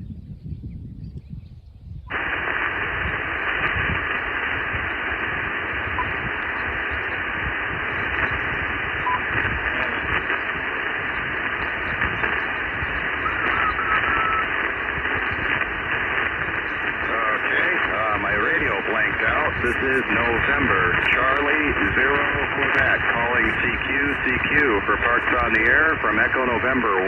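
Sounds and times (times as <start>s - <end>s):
low rumble: 2.0s - 26.1s
radio static hiss: 2.1s - 27.0s.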